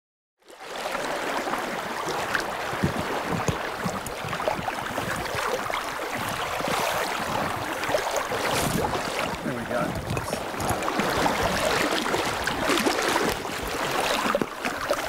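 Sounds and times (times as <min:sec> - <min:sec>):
river water flowing: 0:00.5 - 0:15.0.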